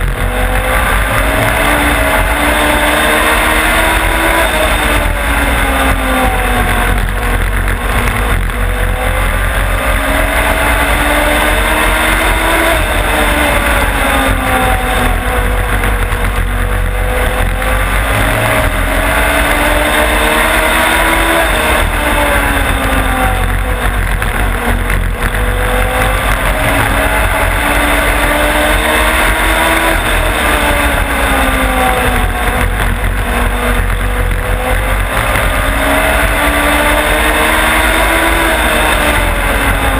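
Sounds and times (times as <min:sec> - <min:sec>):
race car engine revving: 0:00.0 - 0:39.9
wind and vibration rumble: 0:00.0 - 0:39.9.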